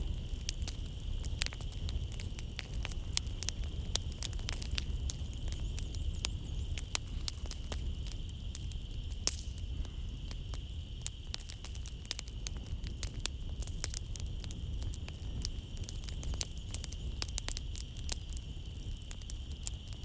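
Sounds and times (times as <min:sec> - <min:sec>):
night insects droning: 0:00.0 - 0:20.0
wood fire crackling: 0:00.0 - 0:20.0.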